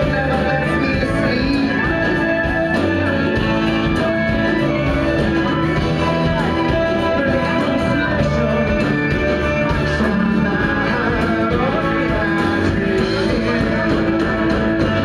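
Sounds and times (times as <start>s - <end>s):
man singing into microphone: 0.0s - 15.0s
violin: 0.0s - 15.0s.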